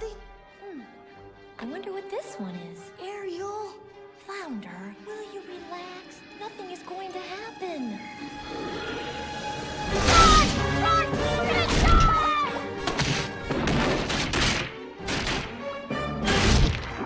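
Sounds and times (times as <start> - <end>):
dramatic film music: 0.0 - 17.0.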